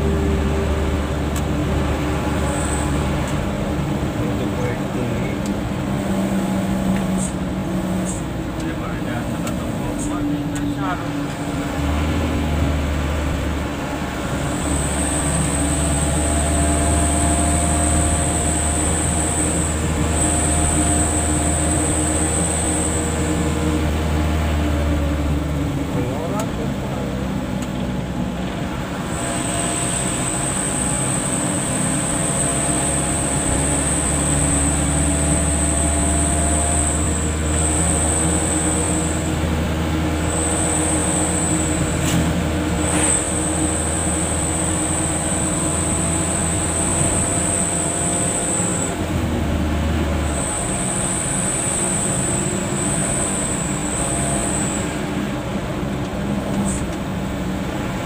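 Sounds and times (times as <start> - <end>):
car engine and tyres droning: 0.0 - 58.0.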